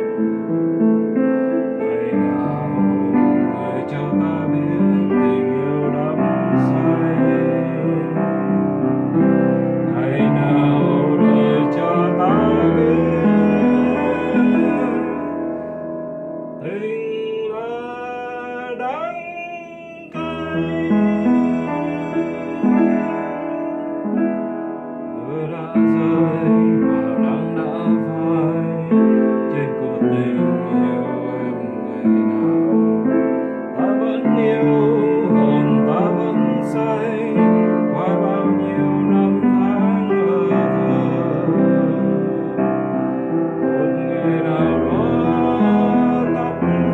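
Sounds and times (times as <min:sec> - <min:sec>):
piano ballad: 0:00.0 - 0:46.9.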